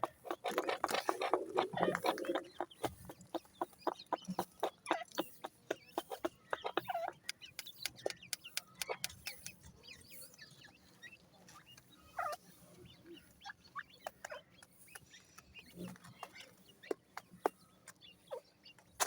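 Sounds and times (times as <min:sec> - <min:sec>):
chicks cheeping: 0:00.0 - 0:19.0.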